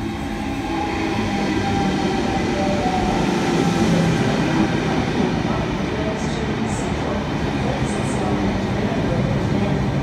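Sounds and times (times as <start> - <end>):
electric train arriving: 0.0 - 10.0.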